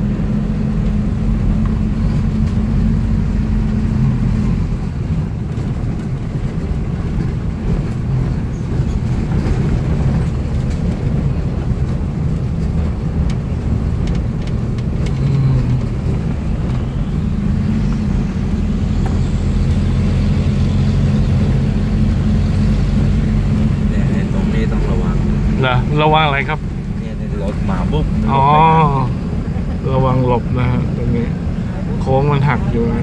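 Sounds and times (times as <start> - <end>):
car engine running: 0.0 - 33.0
road noise: 0.0 - 33.0.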